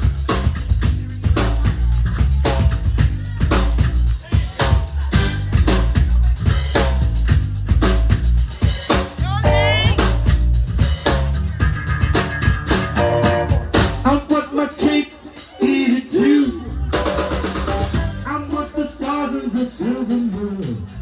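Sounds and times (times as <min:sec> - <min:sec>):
electric bass: 0:00.0 - 0:14.4, 0:16.3 - 0:21.0
drum kit beat: 0:00.0 - 0:21.0
live funk band playing: 0:00.0 - 0:21.0.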